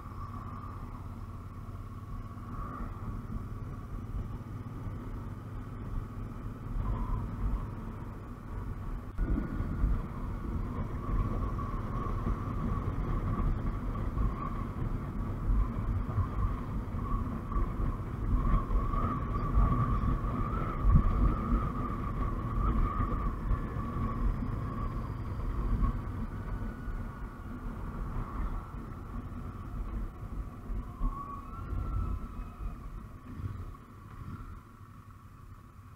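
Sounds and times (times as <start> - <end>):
wind rumble on microphone: 0.0 - 35.9
thin steady whine: 5.8 - 35.9.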